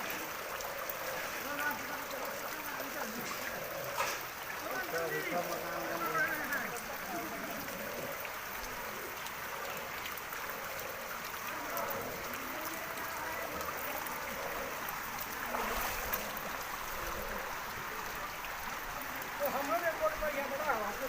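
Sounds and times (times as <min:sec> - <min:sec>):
faint voices: 0:00.0 - 0:21.0
floodwater flowing: 0:00.0 - 0:21.0.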